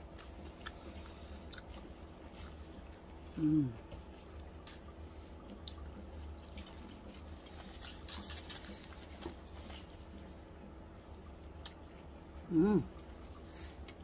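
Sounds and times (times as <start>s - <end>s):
chewing and wet mouth sounds: 0.0s - 14.0s
low steady hum: 0.0s - 14.0s.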